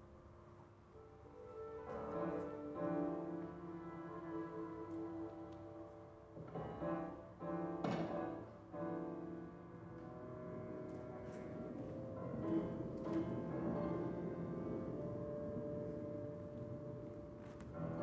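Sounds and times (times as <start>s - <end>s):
classical music with held notes: 0.0s - 18.0s.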